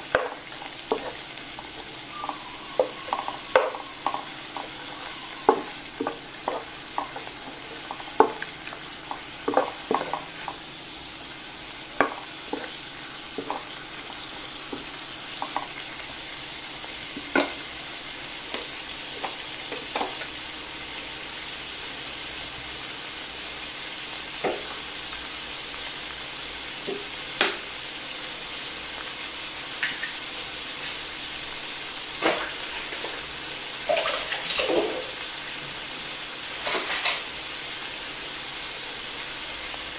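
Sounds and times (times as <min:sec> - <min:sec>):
food sizzling and bubbling in pan: 0:00.0 - 0:39.9.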